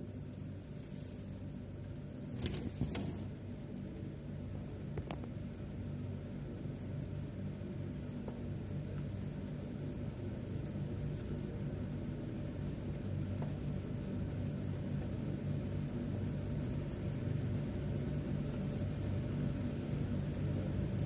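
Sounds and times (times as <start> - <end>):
faint ticks of raindrops: 0.0 - 2.5, 3.8 - 21.0.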